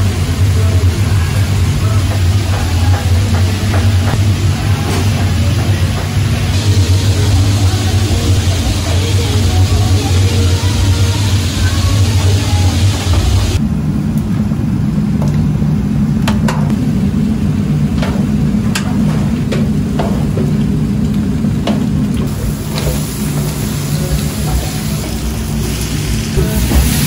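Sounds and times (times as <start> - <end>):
frying hiss: 0.0 - 13.6, 16.9 - 27.0
gas range humming: 0.0 - 27.0.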